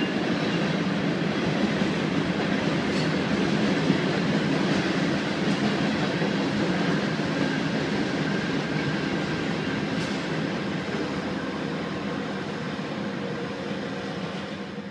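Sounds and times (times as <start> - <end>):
train cars rumbling on rails: 0.0 - 14.9.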